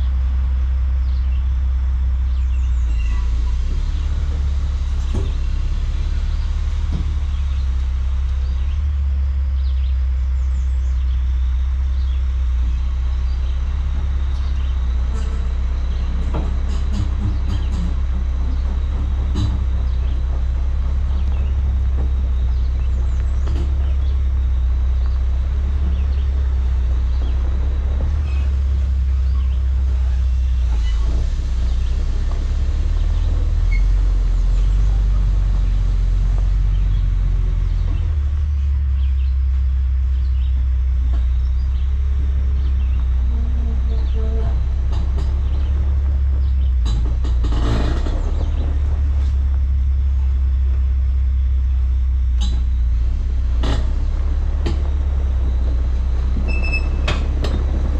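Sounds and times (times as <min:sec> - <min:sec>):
diesel truck engine rumbling: 0:00.0 - 0:57.9.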